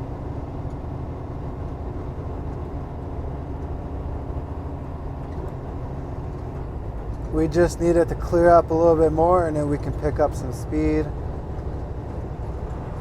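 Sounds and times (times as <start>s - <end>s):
truck diesel engine drone: 0.0s - 13.0s
tyre and road noise: 0.0s - 13.0s.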